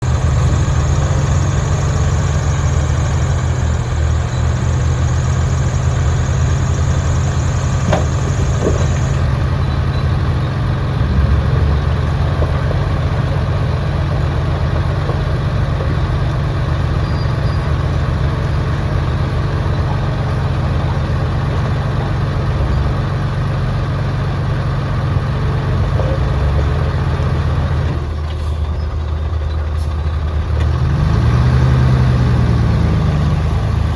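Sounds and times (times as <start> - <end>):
bulldozer diesel engine droning: 0.0 - 33.9.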